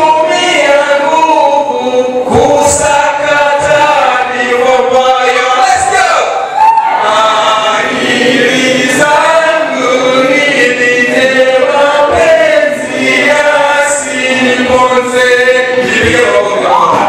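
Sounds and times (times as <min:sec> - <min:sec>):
man singing into a microphone: 0:00.0 - 0:06.4, 0:08.6 - 0:17.0
voices chanting along: 0:00.0 - 0:17.0.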